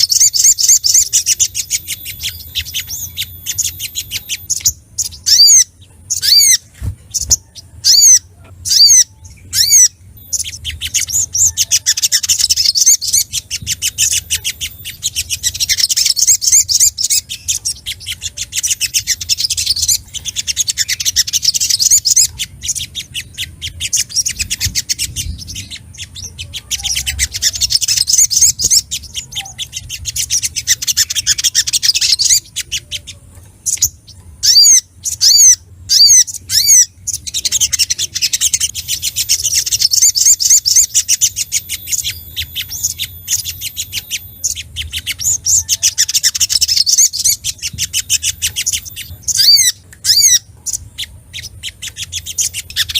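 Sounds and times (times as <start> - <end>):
bird chips and chattering: 0.0 - 52.9.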